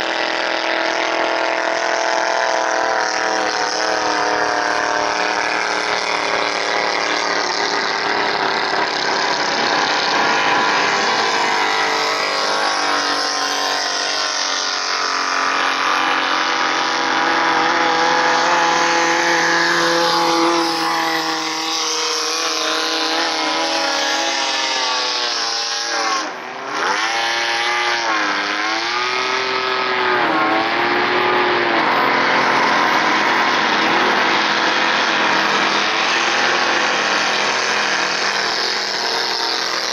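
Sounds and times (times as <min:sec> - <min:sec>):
speedboat engines revving: 0:00.0 - 0:39.9.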